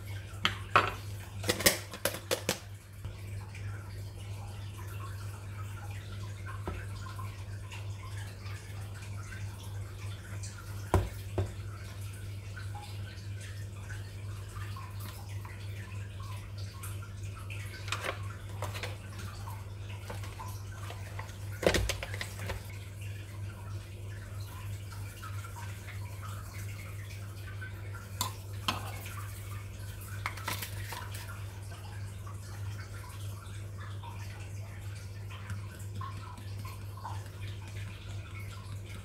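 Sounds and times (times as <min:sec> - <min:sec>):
water bubbling and dripping: 0:00.0 - 0:39.0.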